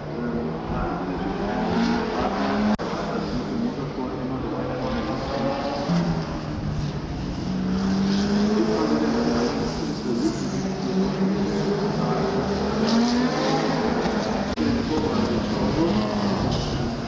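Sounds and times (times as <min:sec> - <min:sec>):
racing car engines at full throttle: 0:00.0 - 0:17.0.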